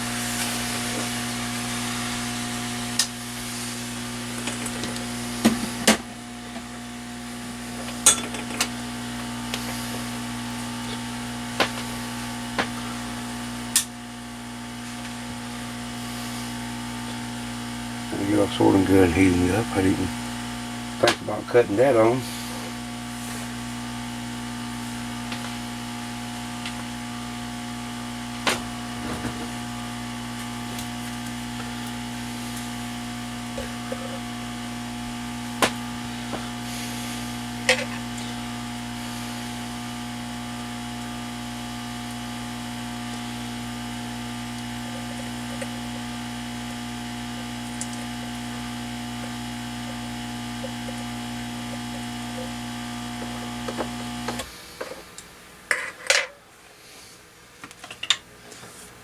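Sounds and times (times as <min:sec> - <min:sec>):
hot air gun blower humming: 0:00.0 - 0:55.2.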